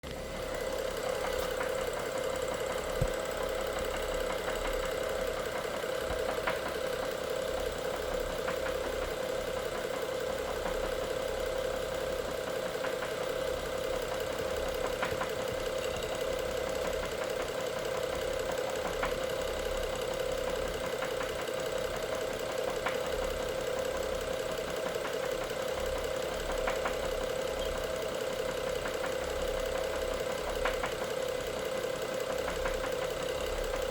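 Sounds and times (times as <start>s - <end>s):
car engine running with knock: 0.0s - 33.9s
sharp engine ticks: 0.5s - 33.9s.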